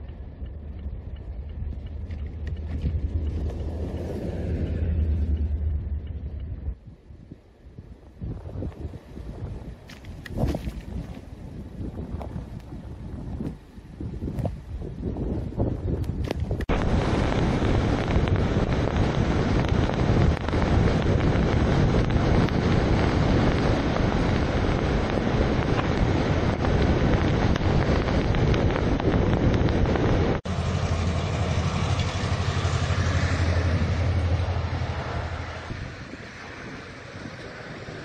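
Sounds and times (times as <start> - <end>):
low rumble: 0.0 - 38.0
vehicle running and road noise: 0.0 - 38.0
wind buffeting microphone: 0.0 - 38.0.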